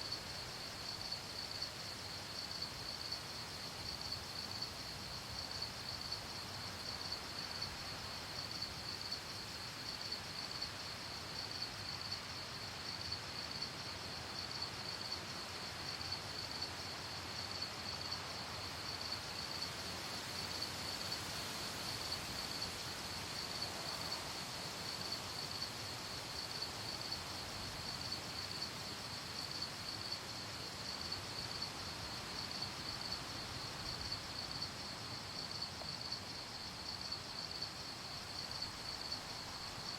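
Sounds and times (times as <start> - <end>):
crickets chirping: 0.0 - 39.9
soft hiss of night air: 0.0 - 39.9.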